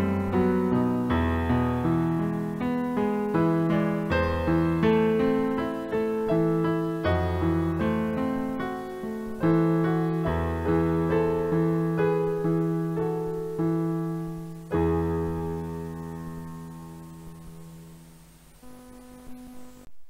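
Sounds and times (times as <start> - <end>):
slow solo piano chords: 0.0 - 19.8.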